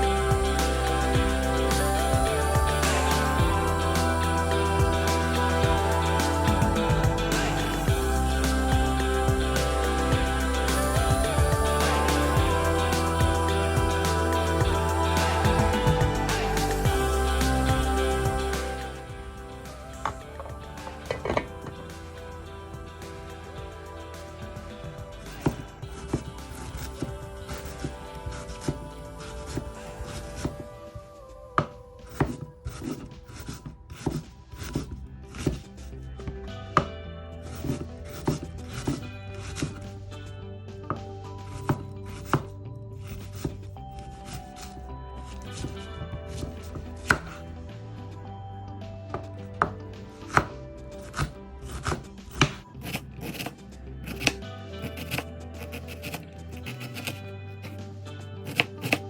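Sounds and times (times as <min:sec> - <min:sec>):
background music: 0:00.0 - 0:59.0.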